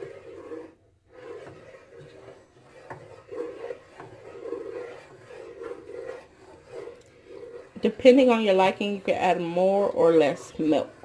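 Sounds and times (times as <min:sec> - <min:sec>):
wooden spoon scraping a saucepan: 0:00.0 - 0:11.0.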